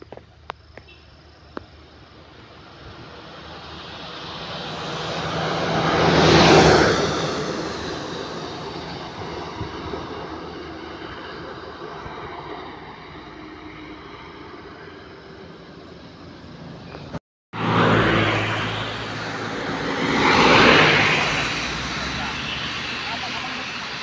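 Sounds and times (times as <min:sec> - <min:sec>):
truck passing on road: 0:01.1 - 0:24.0.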